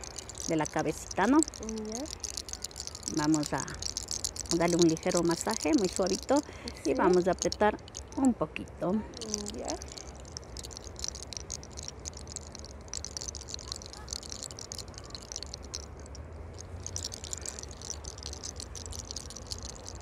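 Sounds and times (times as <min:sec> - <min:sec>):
hair crackling and rustling: 0:00.0 - 0:20.0
steady low hum: 0:00.0 - 0:20.0.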